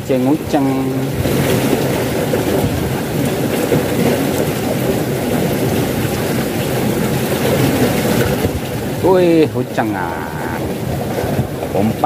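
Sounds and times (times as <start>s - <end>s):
water rushing through ditch: 0.0s - 12.0s.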